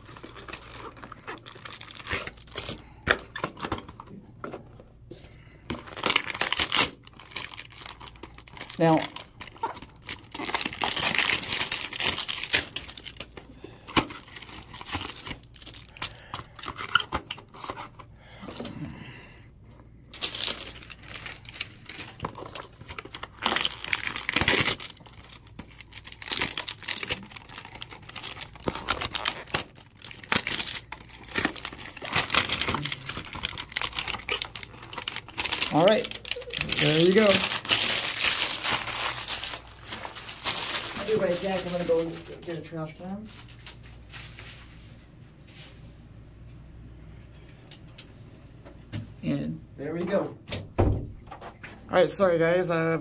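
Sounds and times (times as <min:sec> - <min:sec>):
plastic wrap crinkling and tearing: 0:00.0 - 0:04.0, 0:05.7 - 0:18.7, 0:20.1 - 0:45.8.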